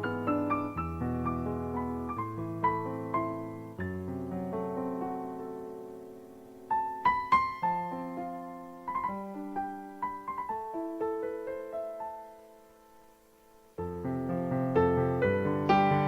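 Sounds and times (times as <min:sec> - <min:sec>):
soft solo piano: 0:00.0 - 0:16.0.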